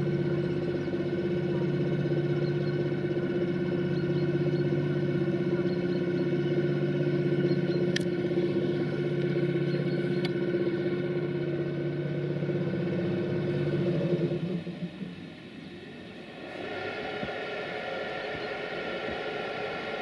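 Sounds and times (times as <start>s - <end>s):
electric locomotive humming: 0.0s - 20.0s.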